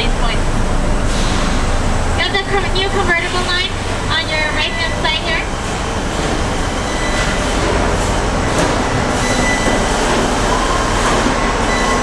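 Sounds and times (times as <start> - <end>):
low rumble and machine noise: 0.0 - 12.0.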